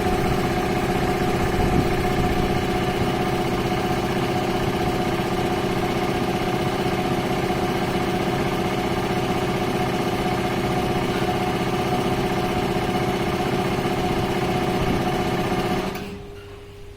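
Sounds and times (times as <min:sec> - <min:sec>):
air compressor motor humming: 0:00.0 - 0:16.3.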